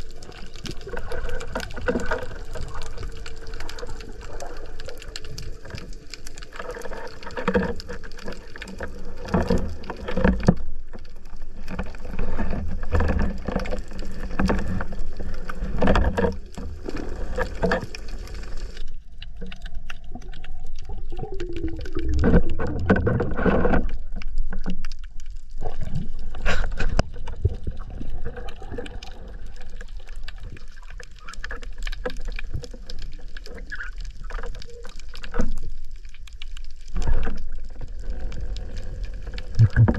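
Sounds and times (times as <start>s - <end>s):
deep water gurgles: 0.0s - 39.9s
underwater water rushing: 0.0s - 39.9s.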